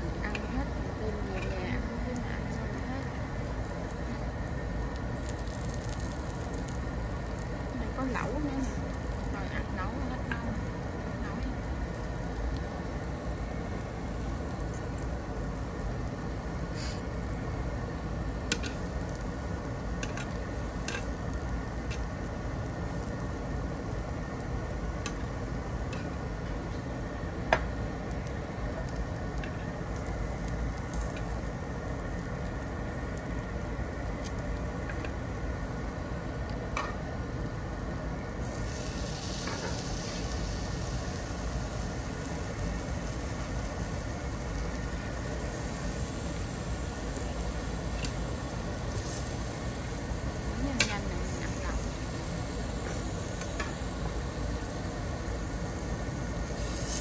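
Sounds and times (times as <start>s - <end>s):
bright hiss: 0.0s - 57.0s
food sizzling on grill: 0.0s - 57.0s.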